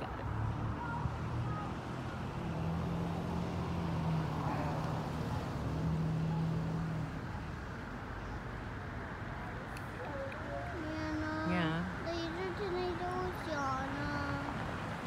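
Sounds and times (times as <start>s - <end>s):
low engine hum: 0.0s - 15.0s
rush of passing cars: 0.0s - 15.0s.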